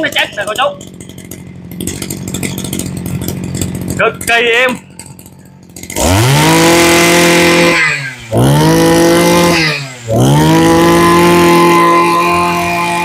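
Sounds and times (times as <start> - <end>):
brush-cutter engine revving: 0.0 - 13.0.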